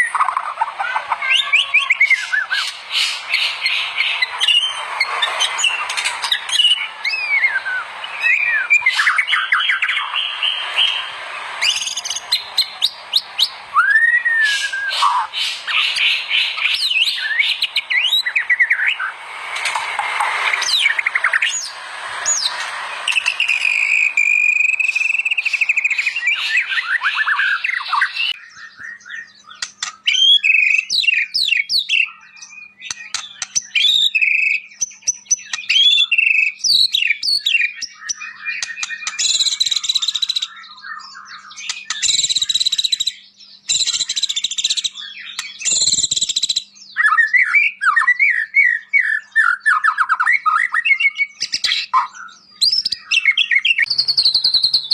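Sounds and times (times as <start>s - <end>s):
harsh buzzy bird rasps: 0.0s - 19.8s, 20.4s - 47.4s, 48.0s - 54.9s
bird song with trills and whistles: 0.0s - 54.9s.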